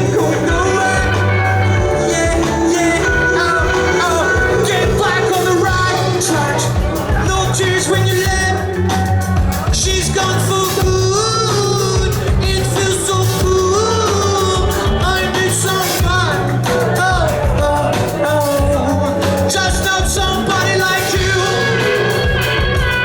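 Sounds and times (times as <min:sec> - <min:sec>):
bass guitar: 0:00.0 - 0:23.0
drums: 0:00.0 - 0:23.0
electric guitars: 0:00.0 - 0:23.0
person singing: 0:00.0 - 0:23.0.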